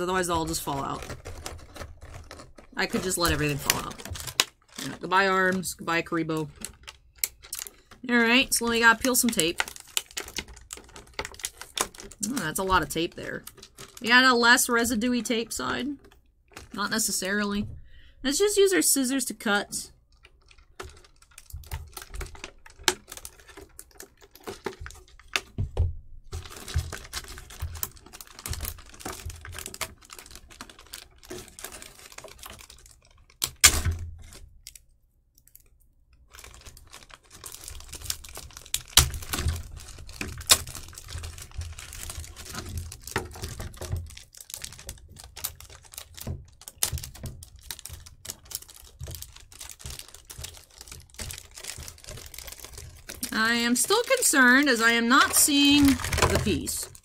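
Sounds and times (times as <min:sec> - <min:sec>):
plastic and cardboard crinkling: 0:00.0 - 0:57.0.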